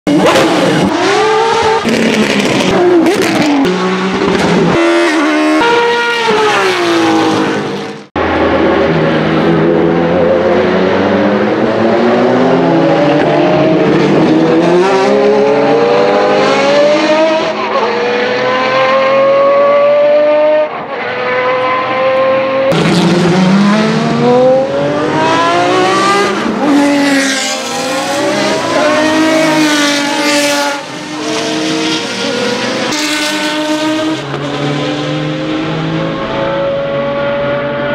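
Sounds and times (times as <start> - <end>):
race car engines revving: 0.1 - 37.9.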